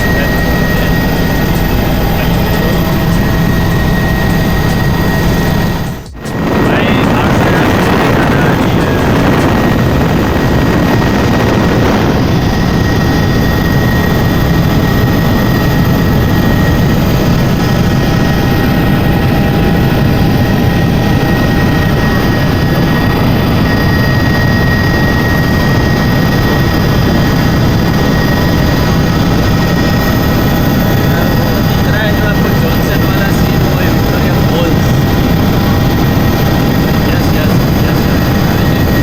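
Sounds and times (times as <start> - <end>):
helicopter engine and rotors droning: 0.0 - 39.0
high-pitched whine: 0.0 - 39.0.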